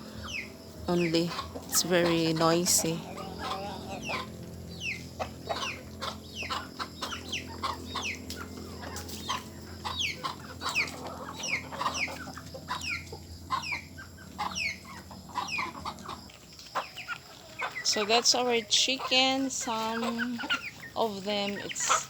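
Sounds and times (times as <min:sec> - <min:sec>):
chickens calling: 0:00.0 - 0:22.0.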